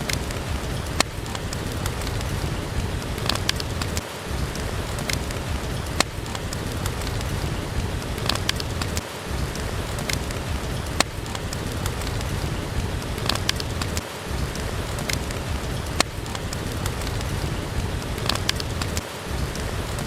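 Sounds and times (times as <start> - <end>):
steady rain falling: 0.0 - 20.0
wood fire popping: 0.0 - 20.0.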